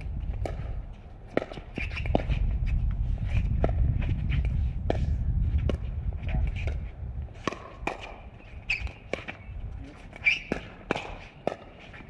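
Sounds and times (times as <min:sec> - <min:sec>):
players' footsteps: 0:00.0 - 0:12.0.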